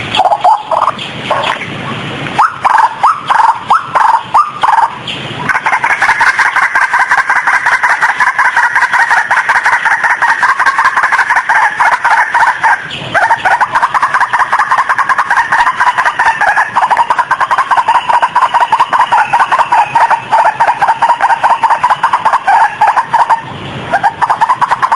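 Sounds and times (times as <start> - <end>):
waterhen calling: 0.0 - 24.9.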